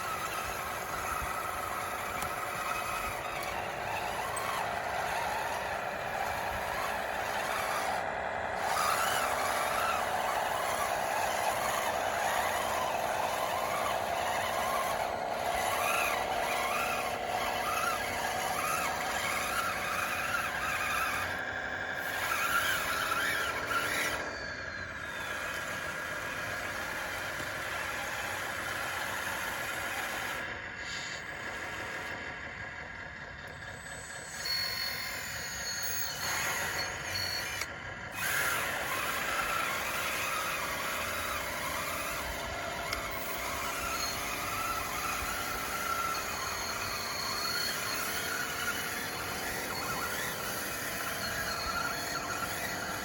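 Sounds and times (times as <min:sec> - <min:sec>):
running gear squeaks: 0:00.0 - 0:21.4, 0:22.0 - 0:25.9, 0:33.8 - 0:53.0
model bulldozer motor whine: 0:00.0 - 0:53.0.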